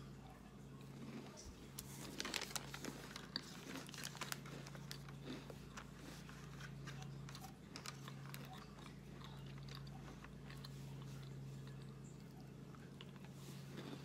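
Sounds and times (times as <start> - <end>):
steady low hum: 0.0 - 14.0
chewing crunchy snack: 0.8 - 14.0.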